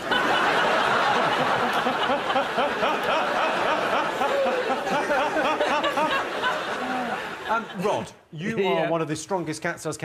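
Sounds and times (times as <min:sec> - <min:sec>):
audience laughing: 0:00.0 - 0:08.7.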